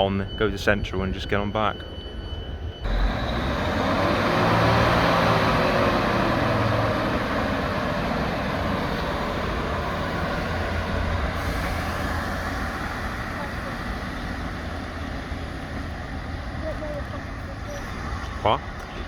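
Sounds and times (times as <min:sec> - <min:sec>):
diesel train engine humming: 0:00.0 - 0:19.0.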